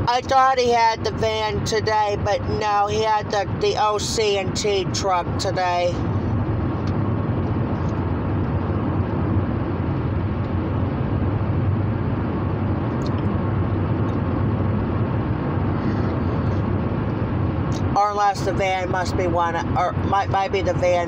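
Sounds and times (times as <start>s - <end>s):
car cabin road and engine rumble: 0.0s - 21.0s.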